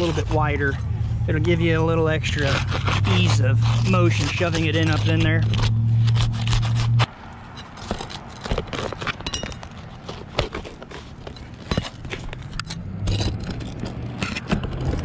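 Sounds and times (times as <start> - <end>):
shingles scraping and rustling: 1.6 - 15.0.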